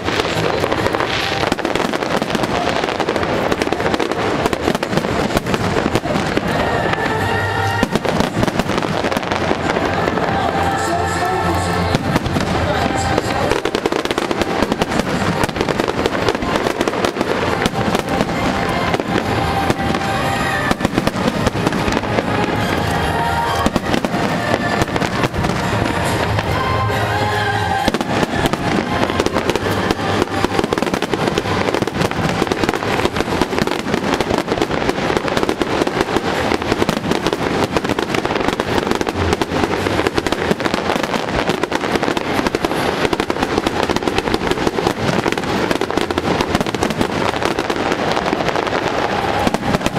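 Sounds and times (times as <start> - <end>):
fireworks bangs and crackles: 0.0 - 49.9
music playing: 0.0 - 49.9.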